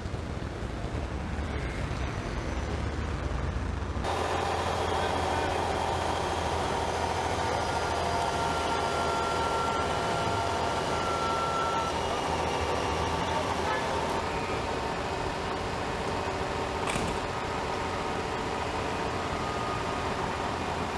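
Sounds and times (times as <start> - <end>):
traffic engines rumbling: 0.0 - 20.9.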